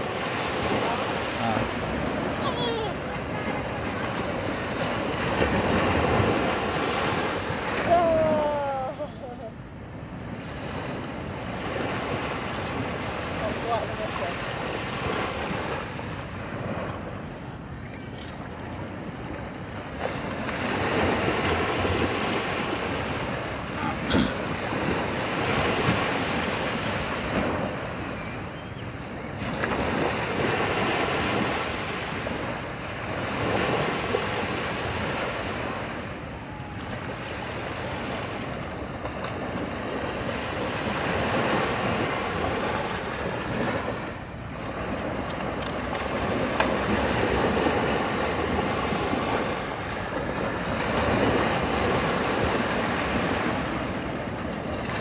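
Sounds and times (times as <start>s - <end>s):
surf breaking on a beach: 0.0s - 55.0s.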